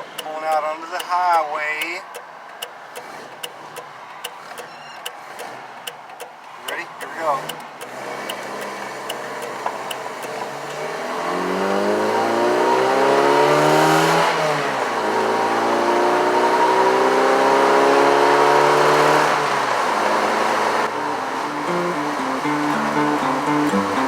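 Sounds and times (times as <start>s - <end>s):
truck engine accelerating: 2.0s - 24.0s.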